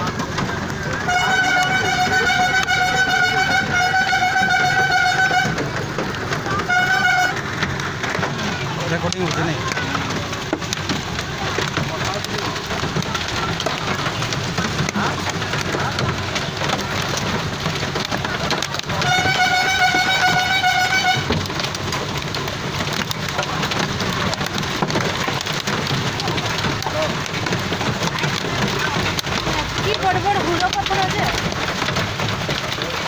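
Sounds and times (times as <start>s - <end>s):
heavy rain and hail: 0.0s - 33.0s.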